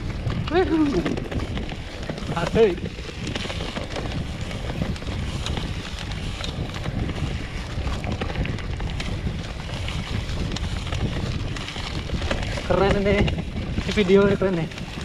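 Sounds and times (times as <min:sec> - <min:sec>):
bike rattling over bumpy ground: 0:00.0 - 0:15.0
wind rushing over microphone: 0:00.0 - 0:15.0.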